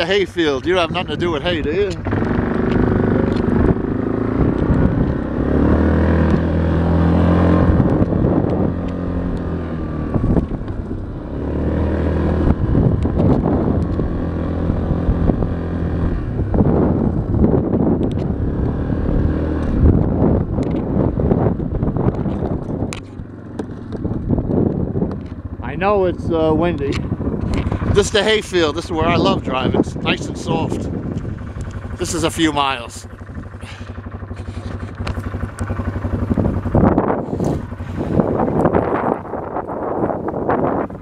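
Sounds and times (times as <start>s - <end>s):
atv engine running: 0.0s - 41.0s
wind buffeting microphone: 0.0s - 41.0s.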